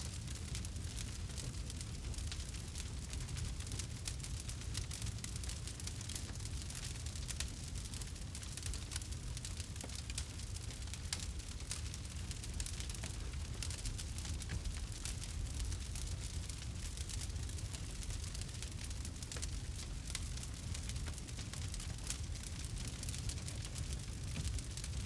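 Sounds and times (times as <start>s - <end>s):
campfire crackling: 0.1s - 25.0s.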